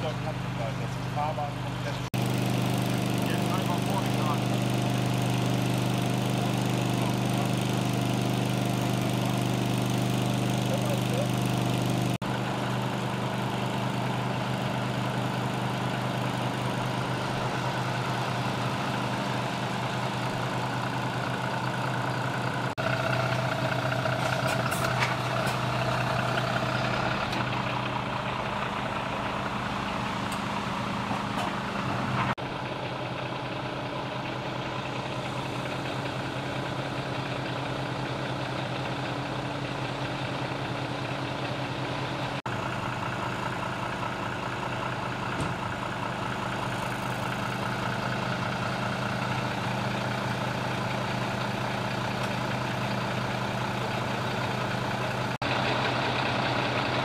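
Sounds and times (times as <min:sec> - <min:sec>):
lorry diesel engines idling: 0:00.0 - 0:57.0.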